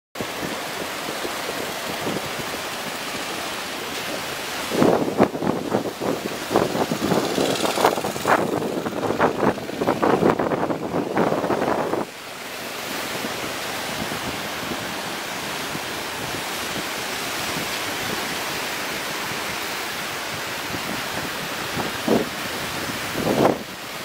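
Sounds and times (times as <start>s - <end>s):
ocean surf breaking: 0.2s - 24.0s
wind on microphone: 0.2s - 24.0s.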